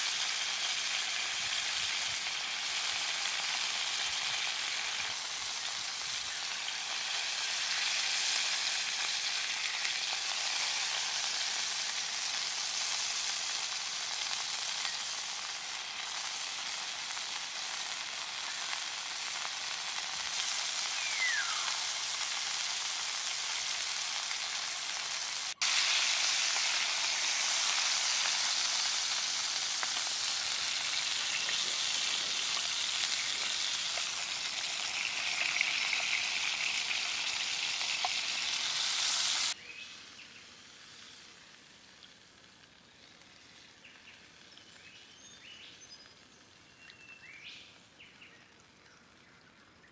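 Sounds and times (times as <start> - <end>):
steak sizzling in frying pan: 0.0 - 45.0.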